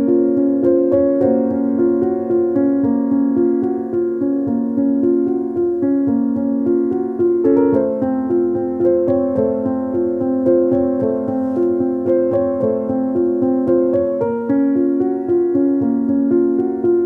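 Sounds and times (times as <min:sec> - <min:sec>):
piano-like keyboard melody: 0:00.0 - 0:17.0.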